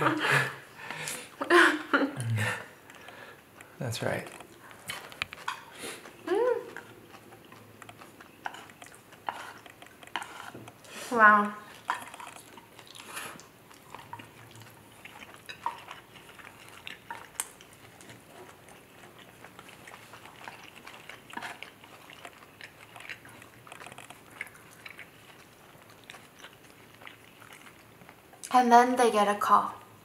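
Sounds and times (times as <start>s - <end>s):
chewing noodles: 2.2s - 28.6s.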